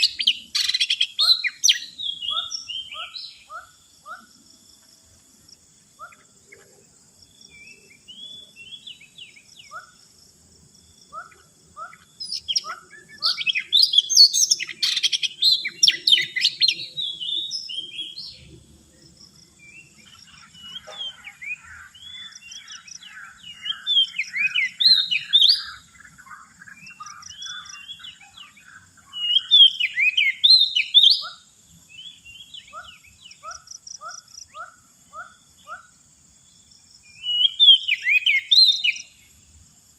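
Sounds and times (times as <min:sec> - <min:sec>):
bird singing whistled notes: 0:00.0 - 0:04.3, 0:07.4 - 0:10.0, 0:11.1 - 0:18.6, 0:19.5 - 0:35.9, 0:37.0 - 0:39.3.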